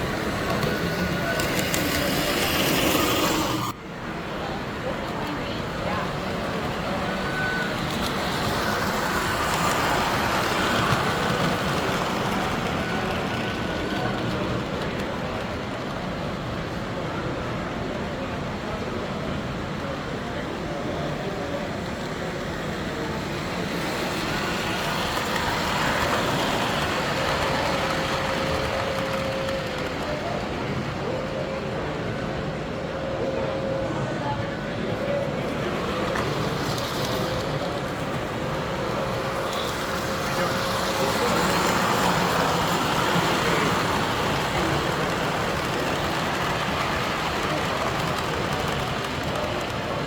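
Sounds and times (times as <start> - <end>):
model train rolling rumble: 0.0 - 33.6, 34.5 - 50.0.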